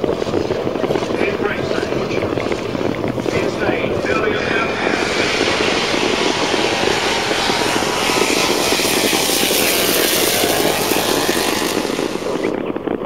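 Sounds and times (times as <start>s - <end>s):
drag racing engine roaring: 0.0s - 13.0s.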